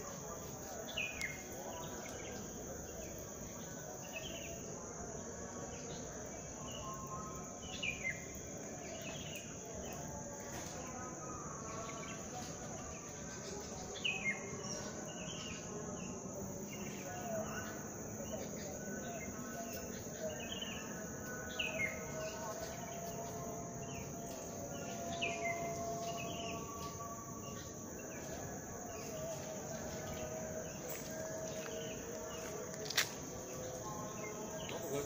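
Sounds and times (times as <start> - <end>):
birds chirping: 0.0 - 11.0, 11.6 - 35.0
high-pitched insect trill: 0.0 - 35.0.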